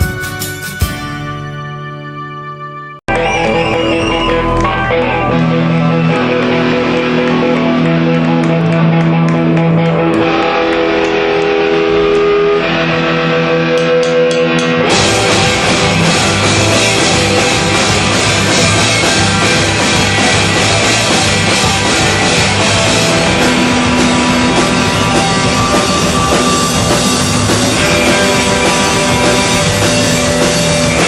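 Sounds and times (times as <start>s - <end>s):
drums: 0.0s - 31.0s
ringing electric guitar notes: 0.0s - 31.0s
rock band playing: 0.0s - 31.0s.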